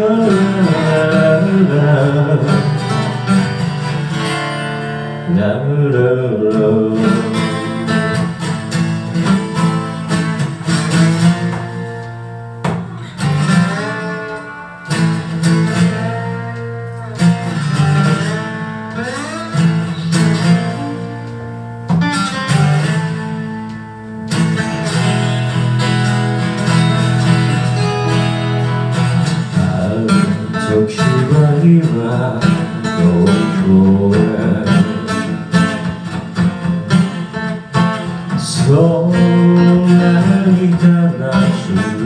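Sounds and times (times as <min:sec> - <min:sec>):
acoustic guitar melody: 0:00.0 - 0:42.0.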